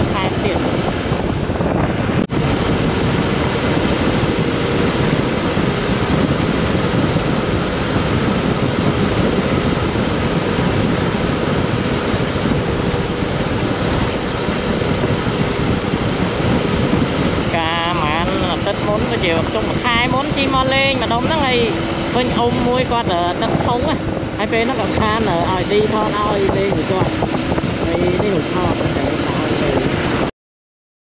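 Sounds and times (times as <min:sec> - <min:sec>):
wind noise on microphone: 0:00.0 - 0:30.3.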